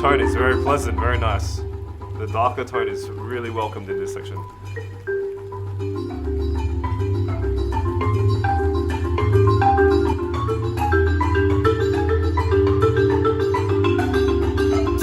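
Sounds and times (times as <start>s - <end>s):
marimba ensemble playing: 0.0s - 15.0s.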